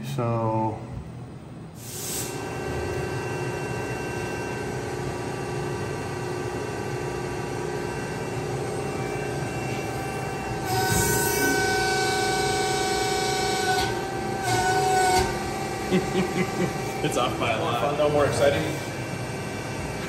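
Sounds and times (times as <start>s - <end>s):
machine hum with whining tones: 0.0s - 20.0s.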